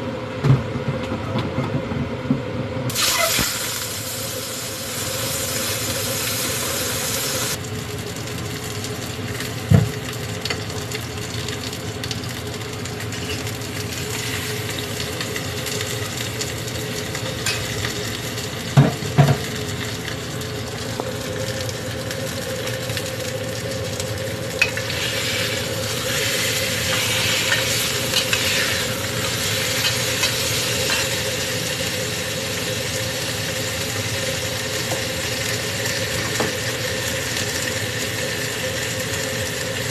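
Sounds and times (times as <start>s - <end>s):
food sizzling in a pan: 2.9s - 39.9s.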